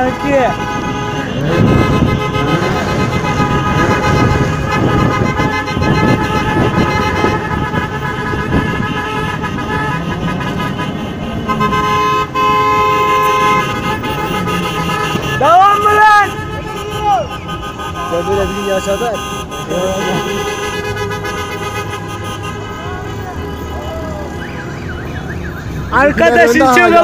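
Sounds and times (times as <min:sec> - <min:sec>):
car engines: 0:00.0 - 0:27.0
car horns sounding: 0:00.0 - 0:27.0
road noise: 0:00.0 - 0:27.0.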